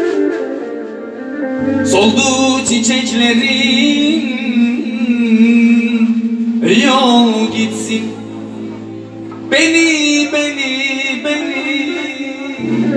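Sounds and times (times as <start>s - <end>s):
amplified live band: 0.0s - 12.9s
man singing: 1.6s - 12.9s.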